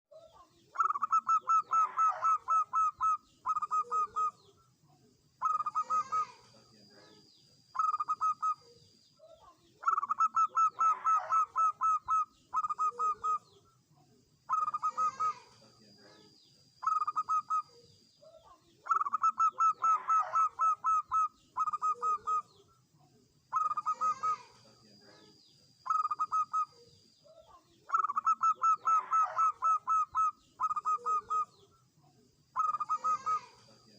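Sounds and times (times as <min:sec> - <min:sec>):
dove cooing: 0:00.3 - 0:04.5, 0:05.4 - 0:07.2, 0:07.8 - 0:08.8, 0:09.4 - 0:13.6, 0:14.5 - 0:22.6, 0:23.5 - 0:31.7, 0:32.6 - 0:33.9.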